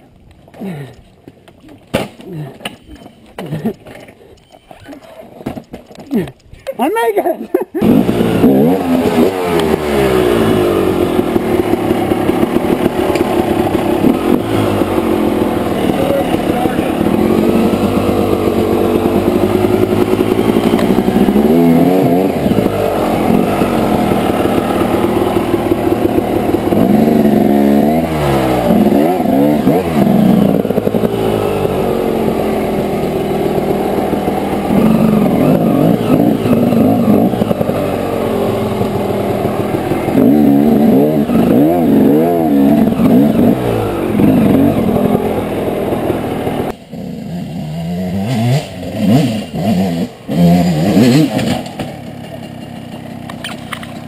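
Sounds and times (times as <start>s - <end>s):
dirt bike engine revving: 7.7s - 54.0s.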